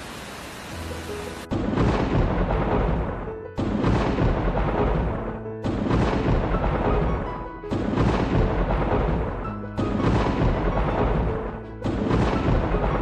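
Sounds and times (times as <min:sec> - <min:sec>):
soundtrack music: 0:00.8 - 0:13.0
thunder-like crash: 0:01.5 - 0:13.0.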